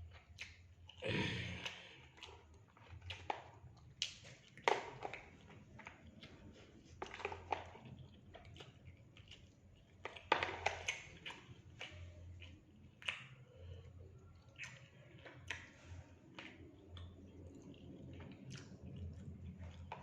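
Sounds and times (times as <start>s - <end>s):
close chewing with crunches: 0.0s - 20.0s.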